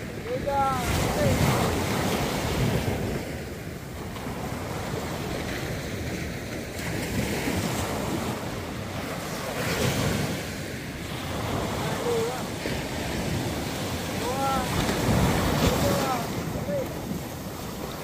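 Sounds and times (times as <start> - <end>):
small waves breaking on a beach: 0.0 - 18.0.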